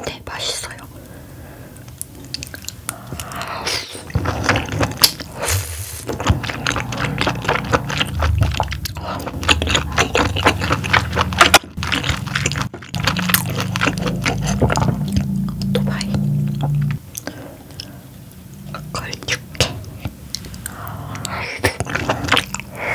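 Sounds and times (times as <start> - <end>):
close chewing with wet clicks: 1.8 - 5.4, 6.0 - 22.8.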